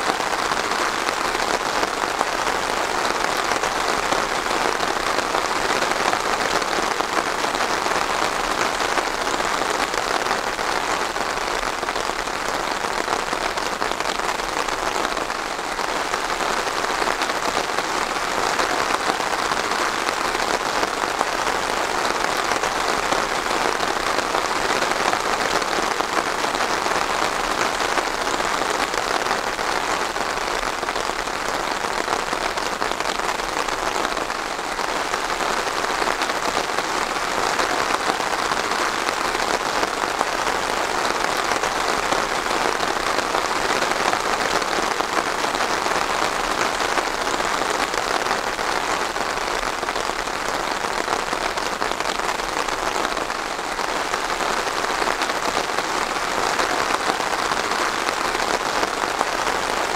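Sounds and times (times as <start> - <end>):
rain pattering on a surface: 0.0 - 59.9.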